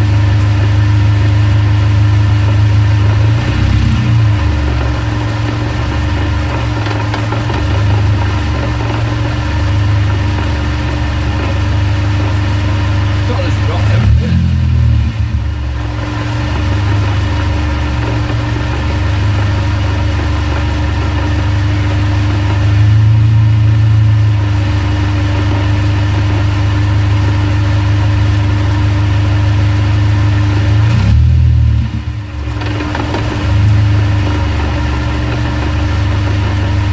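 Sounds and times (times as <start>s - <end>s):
car engine drone: 0.0s - 36.9s
constant whine: 0.0s - 36.9s
drivetrain rattle: 0.0s - 36.9s.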